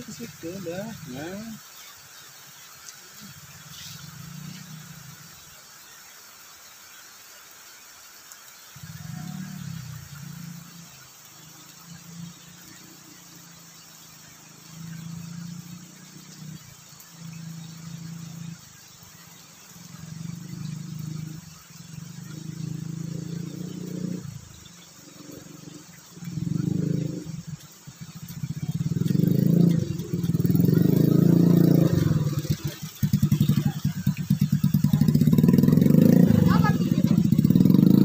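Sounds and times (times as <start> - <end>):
motorcycle engine approaching: 0.0 - 1.6, 3.1 - 5.4, 8.8 - 38.0.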